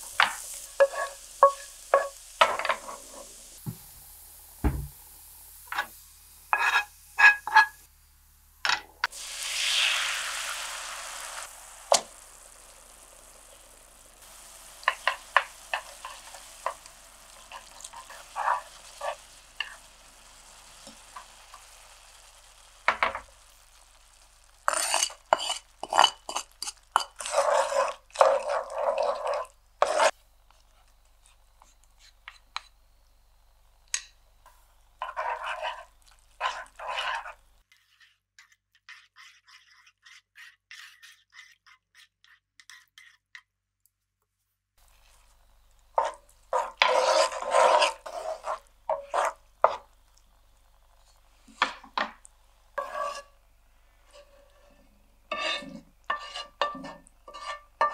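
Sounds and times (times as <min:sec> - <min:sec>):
utensil scraping frying pan: 0:00.0 - 0:04.0, 0:05.7 - 0:07.9, 0:09.0 - 0:32.7, 0:35.0 - 0:43.2, 0:44.8 - 0:50.0, 0:52.8 - 0:53.4, 0:54.0 - 0:57.9.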